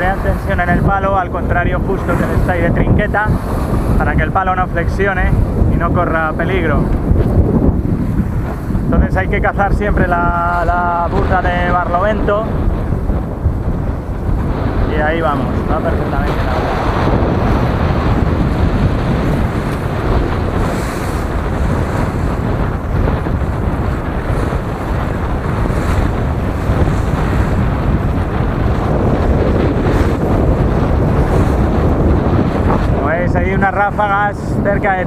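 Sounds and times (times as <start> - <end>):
waves rushing along hull: 0.0 - 35.0
wind buffeting microphone: 0.0 - 35.0.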